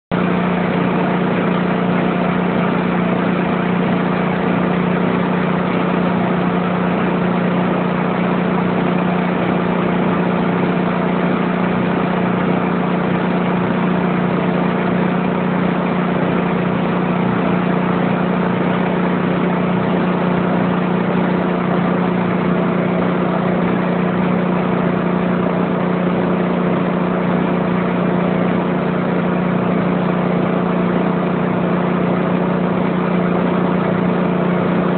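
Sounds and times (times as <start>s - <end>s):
engine droning: 0.1s - 34.9s.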